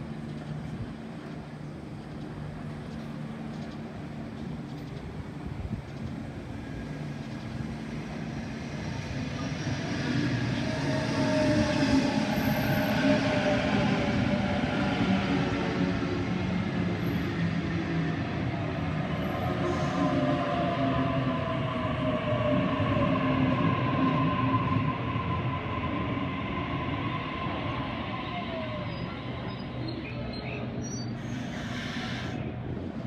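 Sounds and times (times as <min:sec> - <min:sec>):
train wheel and rail rumble: 0:00.0 - 0:33.0.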